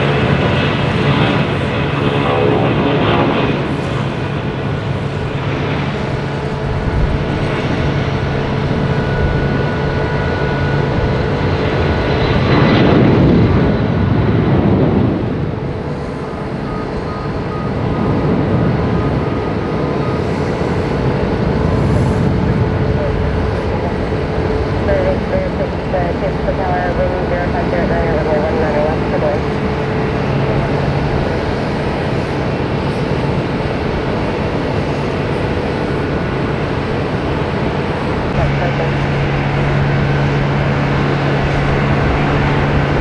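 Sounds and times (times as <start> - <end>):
jet engines roaring at takeoff: 0.0 - 43.0.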